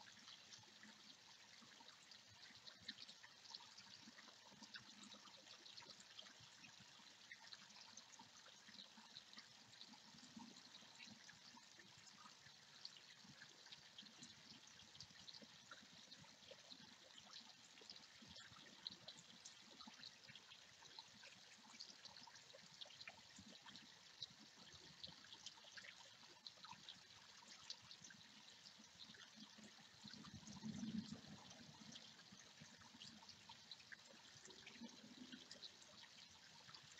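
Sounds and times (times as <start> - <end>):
water trickling: 0.0 - 36.9.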